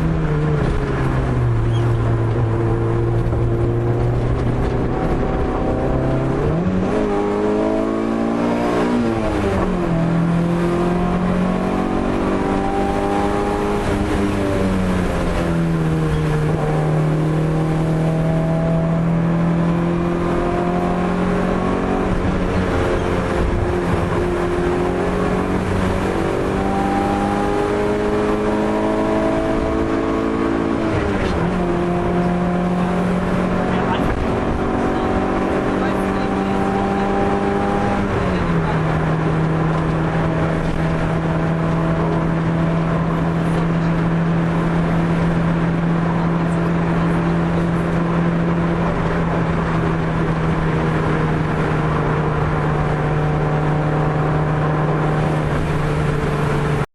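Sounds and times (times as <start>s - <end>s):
car engine revving hard: 0.0s - 56.9s.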